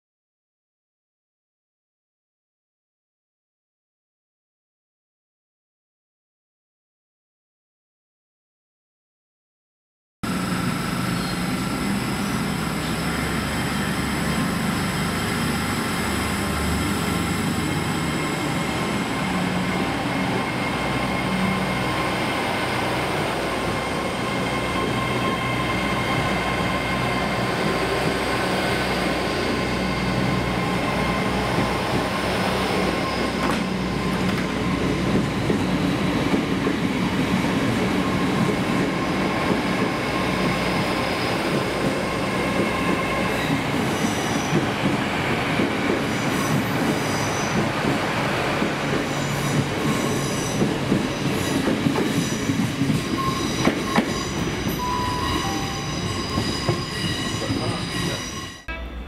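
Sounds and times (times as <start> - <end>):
train rumbling: 10.3 - 59.0.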